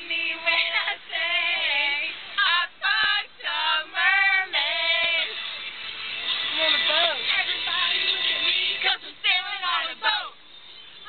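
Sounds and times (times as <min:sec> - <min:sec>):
young female voices singing: 0:00.0 - 0:05.4, 0:06.5 - 0:10.4.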